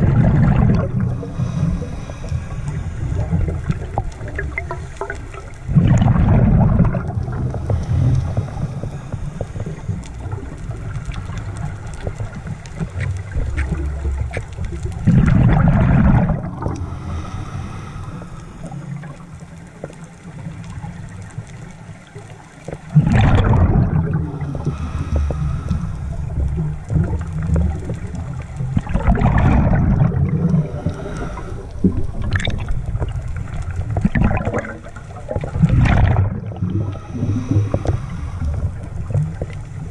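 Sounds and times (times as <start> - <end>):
low underwater rumble: 0.0 - 39.9
underwater bubbles gurgling: 0.0 - 39.9.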